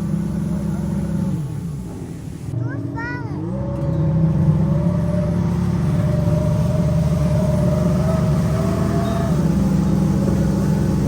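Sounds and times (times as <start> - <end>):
jet ski engine running: 0.0 - 2.5, 4.2 - 11.0.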